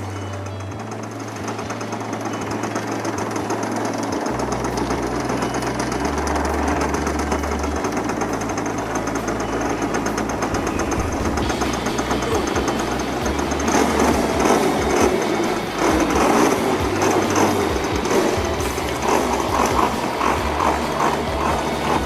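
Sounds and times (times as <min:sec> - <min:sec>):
two-stroke model engine running: 0:00.0 - 0:22.0.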